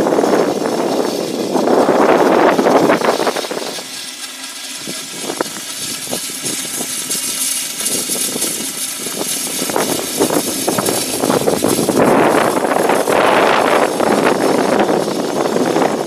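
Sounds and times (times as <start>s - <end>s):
steam locomotive hiss and rumble: 0.0s - 16.0s.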